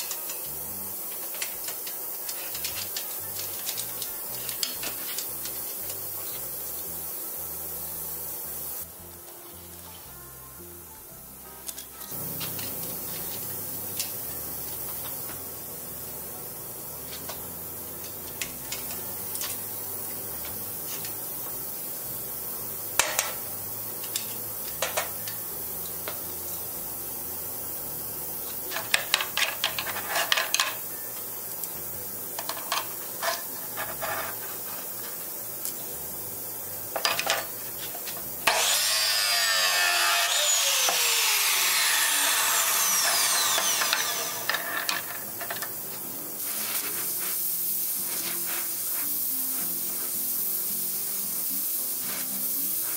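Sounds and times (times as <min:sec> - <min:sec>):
loud rushing hiss: 0:00.0 - 0:09.1, 0:12.1 - 0:29.2, 0:34.4 - 0:52.9
gas torch hissing: 0:00.0 - 0:52.9.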